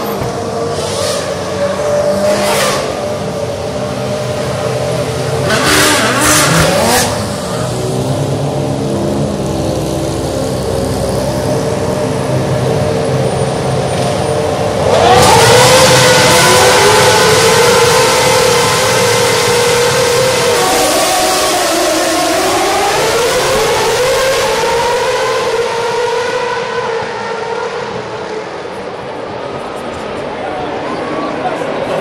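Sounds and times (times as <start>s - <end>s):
many engines revving: 0.0s - 32.0s
race car engines running: 0.0s - 32.0s
race cars passing by: 0.0s - 32.0s.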